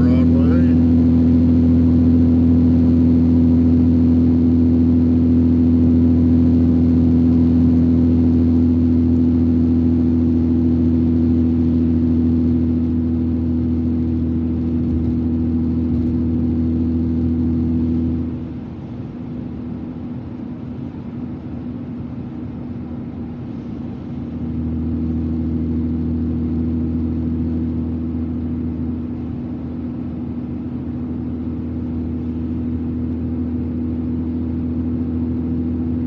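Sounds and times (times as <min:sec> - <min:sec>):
car engine and tyre drone: 0:00.0 - 0:20.1, 0:23.2 - 0:36.0.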